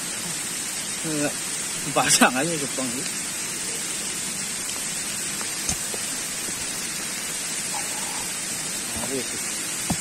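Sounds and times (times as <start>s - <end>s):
rain on foliage: 0.0s - 10.0s.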